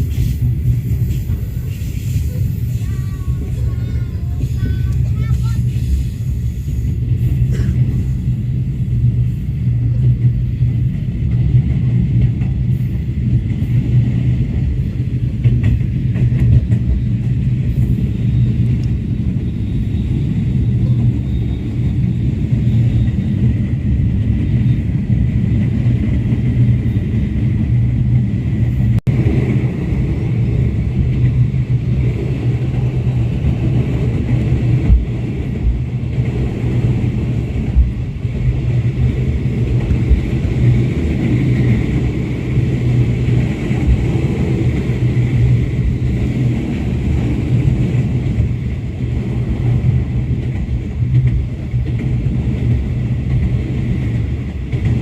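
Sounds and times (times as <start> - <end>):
train rumbling along track: 0.0 - 55.0.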